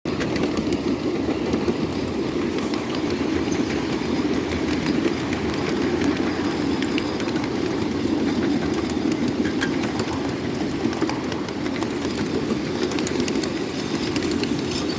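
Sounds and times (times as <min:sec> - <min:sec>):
train wheels rumbling on track: 0:00.0 - 0:14.9
wheels clicking over rail joints: 0:00.1 - 0:14.9.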